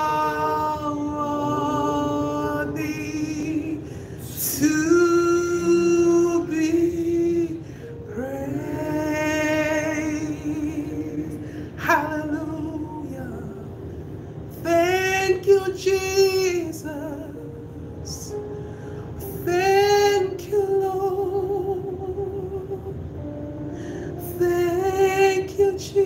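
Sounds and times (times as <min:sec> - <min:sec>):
person singing a worship song: 0:00.0 - 0:23.2, 0:23.8 - 0:26.0.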